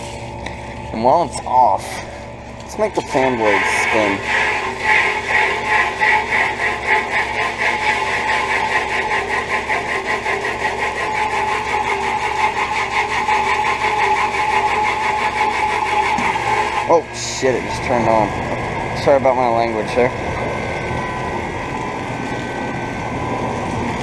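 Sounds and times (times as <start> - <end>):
air conditioner unit humming: 0.0 - 24.0
fan blades whooshing pulse: 0.0 - 24.0.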